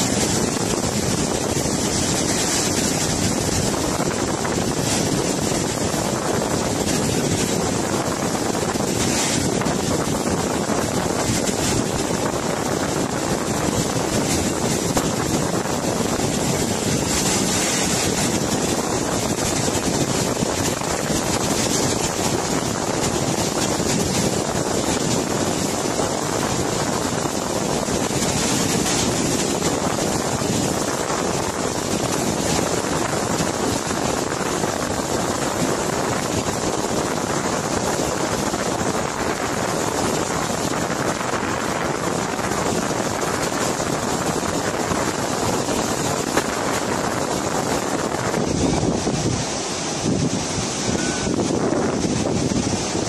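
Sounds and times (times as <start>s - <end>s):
floodwater rushing: 0.0s - 53.0s
wind on the microphone: 0.0s - 53.0s.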